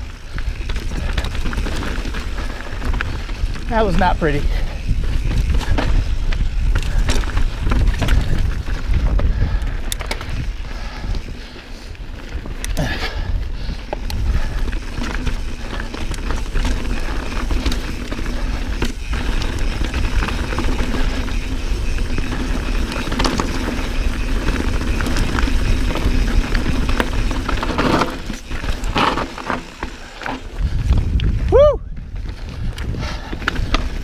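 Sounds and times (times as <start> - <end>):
bike clicks and rattles: 0.0 - 34.0
bike tyres rolling over dirt: 0.0 - 34.0
wind rumble: 0.0 - 34.0.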